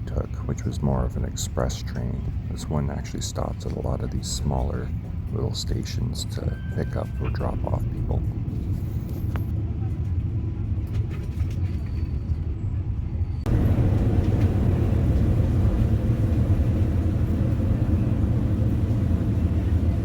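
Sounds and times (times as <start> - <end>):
passenger train rumble: 0.0 - 20.0.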